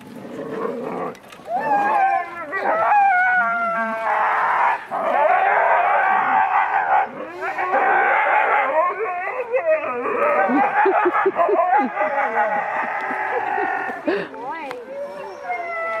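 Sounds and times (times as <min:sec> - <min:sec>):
dogs yelping and howling: 0:01.0 - 0:14.0, 0:14.8 - 0:16.0.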